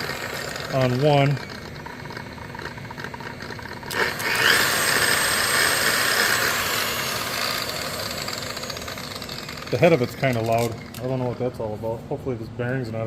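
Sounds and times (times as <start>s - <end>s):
loud gear head whine: 0.0s - 11.4s
polisher running: 0.0s - 11.4s.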